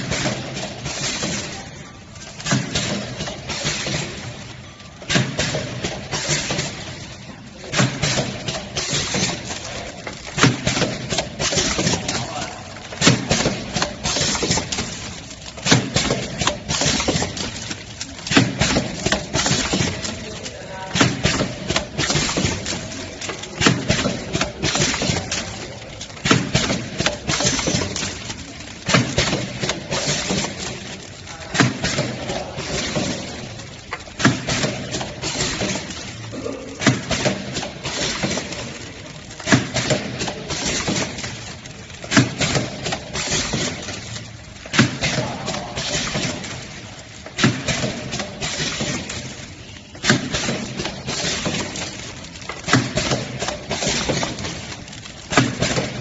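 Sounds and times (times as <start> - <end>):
machine clicking and rattling: 0.0 - 56.0
packing machine sealing clacks: 0.0 - 56.0.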